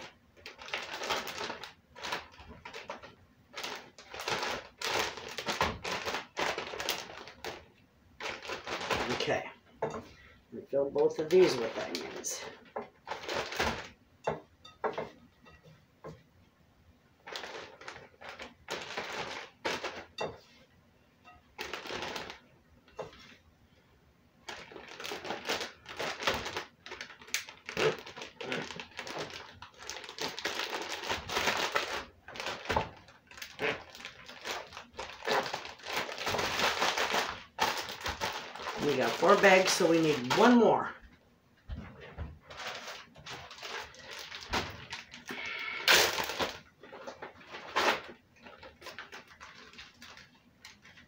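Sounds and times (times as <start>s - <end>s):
plastic bags crinkling: 0.0s - 9.6s, 11.0s - 14.0s, 17.2s - 20.3s, 21.5s - 23.4s, 24.4s - 40.9s, 42.0s - 51.0s.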